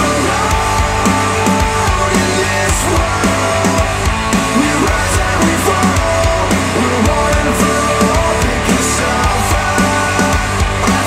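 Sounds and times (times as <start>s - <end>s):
distorted electric guitar: 0.0s - 11.0s
drum beat: 0.0s - 11.0s.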